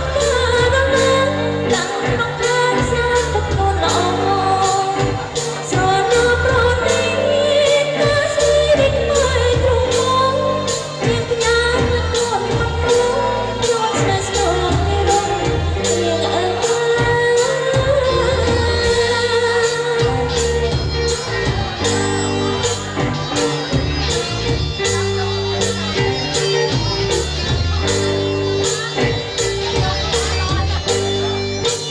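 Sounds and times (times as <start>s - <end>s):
dance band with bass and beat: 0.0s - 31.9s
person singing: 0.0s - 31.9s.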